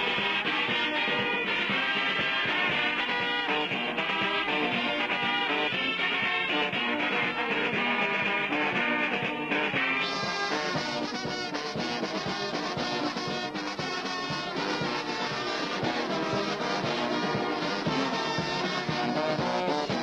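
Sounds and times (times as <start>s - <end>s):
brass band music: 0.0s - 20.0s.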